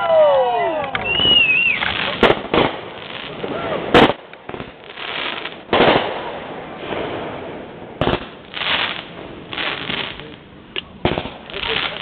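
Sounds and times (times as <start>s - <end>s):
fireworks crackling: 0.4s - 12.0s
fireworks bangs: 0.7s - 12.0s.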